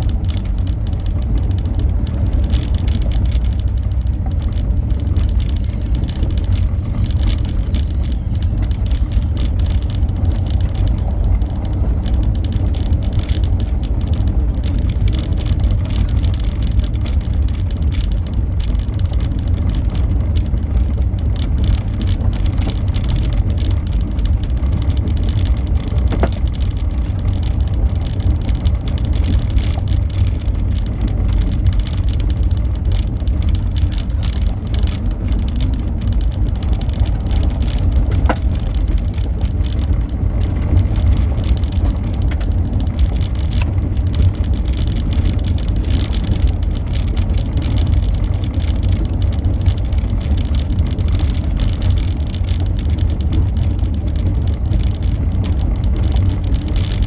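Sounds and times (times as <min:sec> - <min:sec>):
car driving on gravel: 0:00.0 - 0:57.0.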